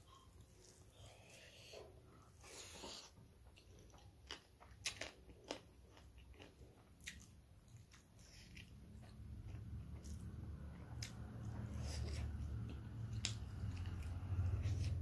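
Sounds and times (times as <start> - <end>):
chewing with sharp crunches: 0.0 - 15.0.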